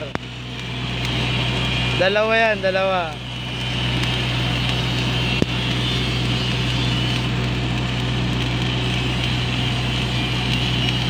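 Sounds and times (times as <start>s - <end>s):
welding arc crackling: 0.0s - 11.0s
welding generator droning: 0.0s - 11.0s.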